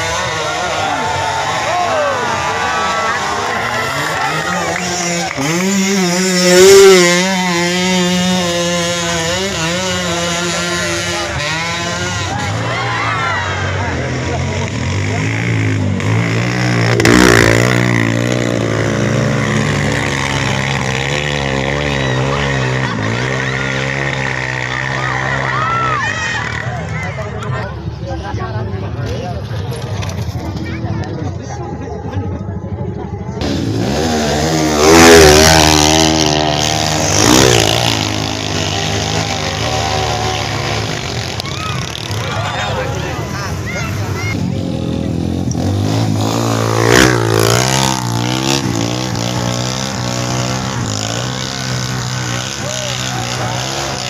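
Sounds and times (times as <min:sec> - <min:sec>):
motorcycle engine revving: 0:00.0 - 0:26.9, 0:32.8 - 0:54.0.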